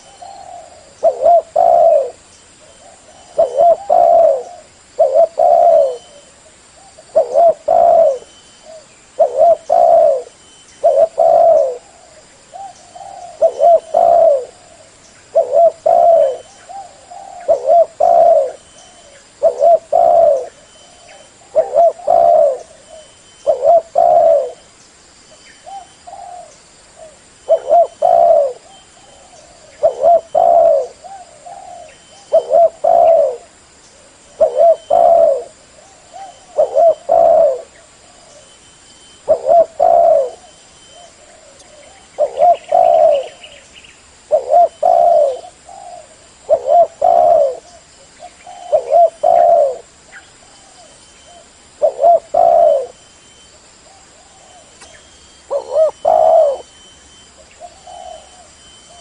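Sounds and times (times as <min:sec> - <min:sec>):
dove cooing: 0:00.0 - 0:24.7, 0:25.6 - 0:43.6, 0:44.2 - 0:59.0.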